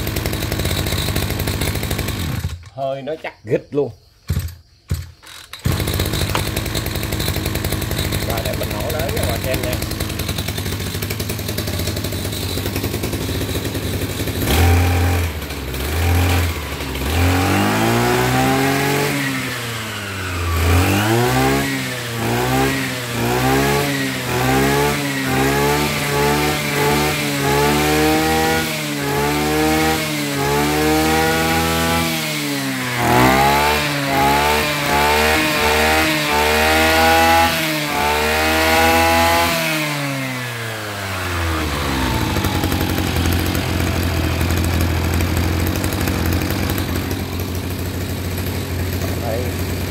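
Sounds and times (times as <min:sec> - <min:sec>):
brush cutter engine revving: 0:00.0 - 0:03.1, 0:04.3 - 0:49.9.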